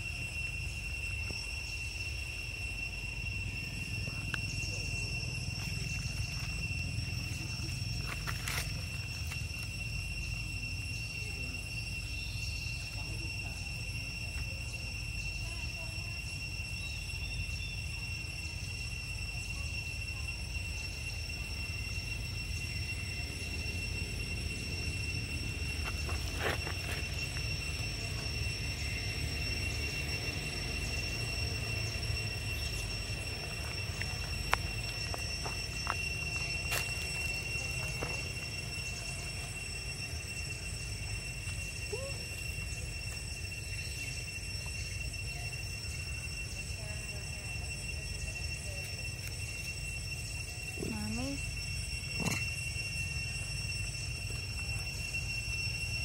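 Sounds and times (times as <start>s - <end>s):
high-pitched insect drone: 0.0s - 56.0s
steady high-pitched tone: 0.0s - 56.0s.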